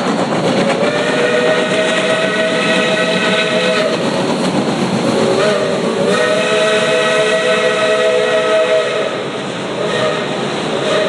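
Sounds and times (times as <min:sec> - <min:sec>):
steam hissing: 0:00.0 - 0:11.0
steam locomotive whistle: 0:00.8 - 0:04.1, 0:05.2 - 0:11.0.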